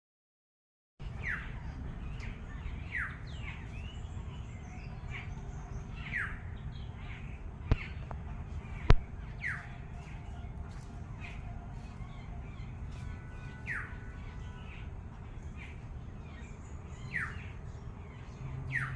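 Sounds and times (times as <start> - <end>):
steady low rumble: 1.0 - 16.9.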